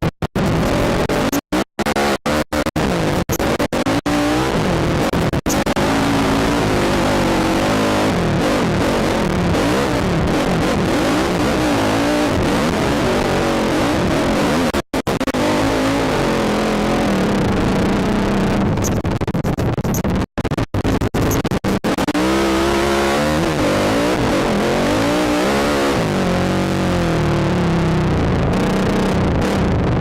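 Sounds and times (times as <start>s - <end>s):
quad engine revving: 0.4s - 18.9s, 21.2s - 29.8s.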